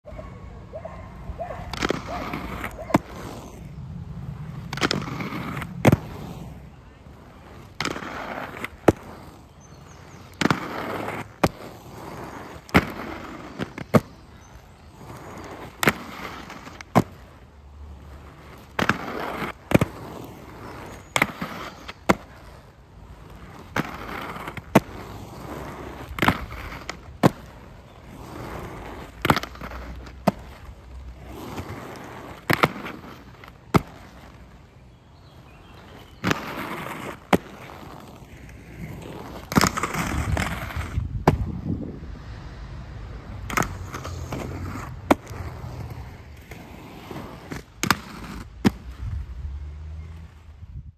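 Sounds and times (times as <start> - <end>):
skate wheels rolling on concrete: 0.0 - 50.9
skates clacking on concrete ledge: 1.2 - 42.0, 43.4 - 49.1.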